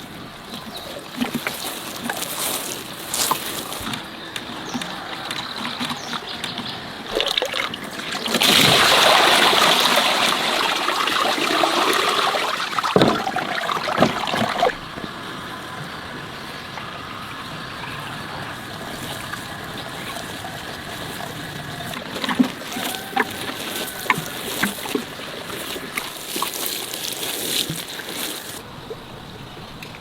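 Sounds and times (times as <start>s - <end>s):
water trickling and splashing: 0.0s - 30.0s.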